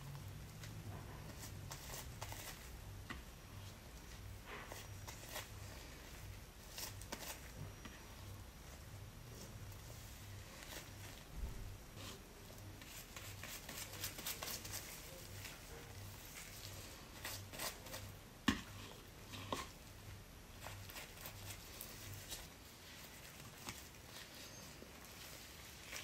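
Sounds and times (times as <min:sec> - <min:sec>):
soft rustles of gloved hands: 0:00.1 - 0:26.0.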